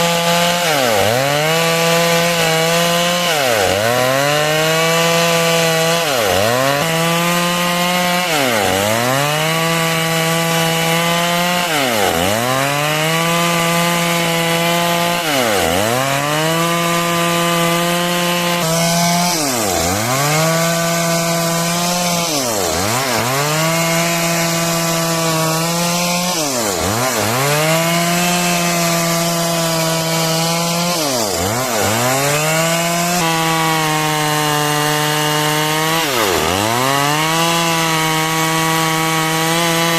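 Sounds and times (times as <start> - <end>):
chainsaw cutting wood at high revs: 0.0 - 39.9.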